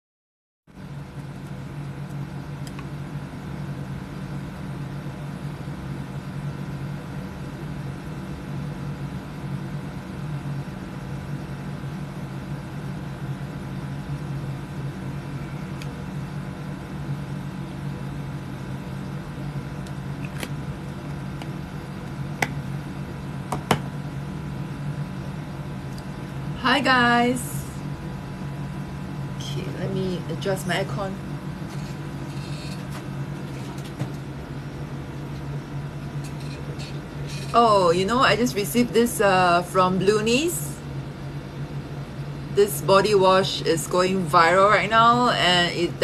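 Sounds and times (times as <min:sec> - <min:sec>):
air conditioner humming: 0:00.7 - 0:46.0.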